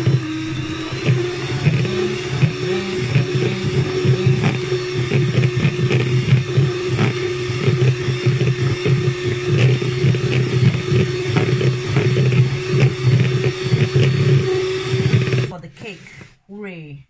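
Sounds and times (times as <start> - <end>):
beaters knocking bowl: 0.0 - 15.5
electric hand mixer running: 0.0 - 16.2.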